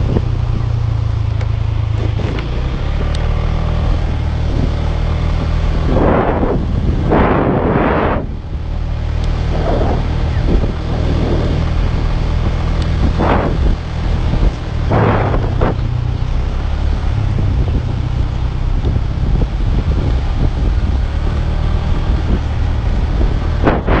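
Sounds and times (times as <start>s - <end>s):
motorcycle engine running: 0.0s - 24.0s
wind buffeting microphone: 0.0s - 24.0s.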